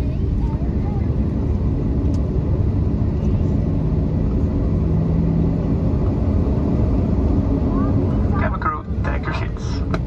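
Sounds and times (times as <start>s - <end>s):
jet engine cabin rumble: 0.0s - 10.0s.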